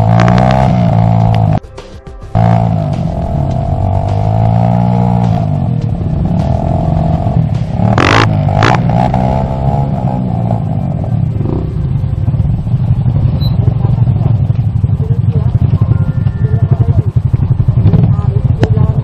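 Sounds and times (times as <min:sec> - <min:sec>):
dirt bike engine revving: 0:00.0 - 0:01.6, 0:02.3 - 0:19.0.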